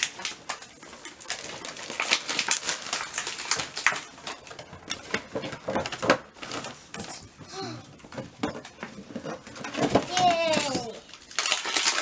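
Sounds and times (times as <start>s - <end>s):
packaging crinkling: 0.0s - 7.4s, 8.9s - 12.0s.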